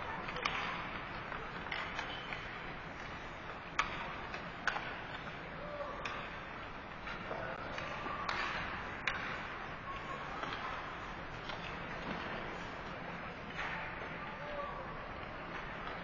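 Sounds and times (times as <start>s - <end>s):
hockey sticks and pucks clacking: 0.1s - 16.0s.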